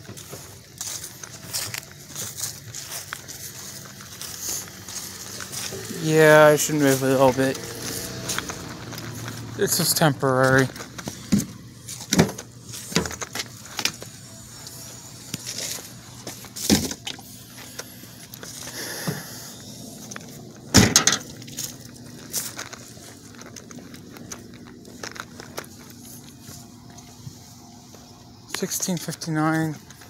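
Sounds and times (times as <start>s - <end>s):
footsteps on asphalt: 0.0s - 30.0s.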